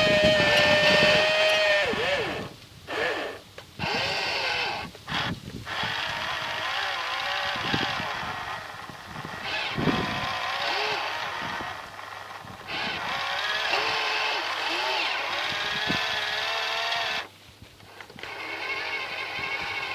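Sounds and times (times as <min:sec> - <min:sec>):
toy excavator motors whirring: 0:00.0 - 0:19.9.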